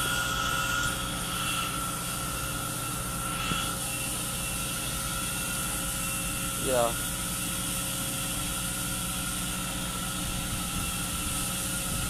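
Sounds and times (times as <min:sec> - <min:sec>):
boat engine drone: 0:00.0 - 0:12.0
machinery whining tones: 0:00.0 - 0:12.0.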